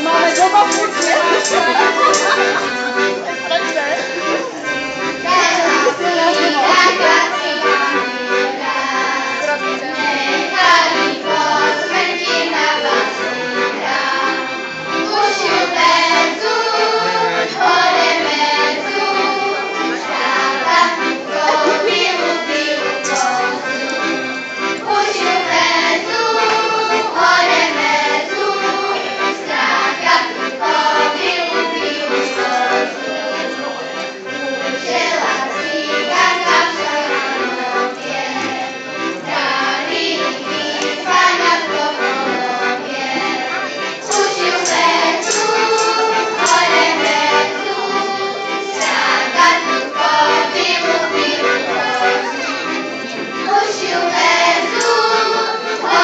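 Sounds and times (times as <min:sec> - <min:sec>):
accordion playing folk tune: 0:00.0 - 0:56.0
children singing: 0:00.0 - 0:56.0.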